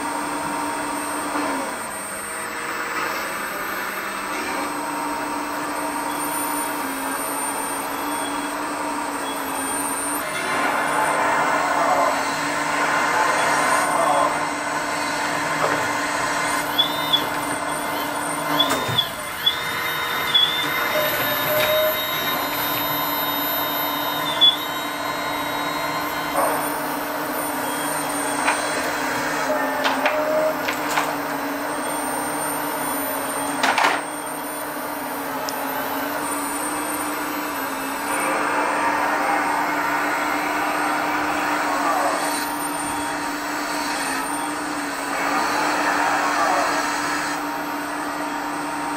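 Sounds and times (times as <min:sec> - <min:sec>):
hydraulic pump humming: 0:00.0 - 0:48.9.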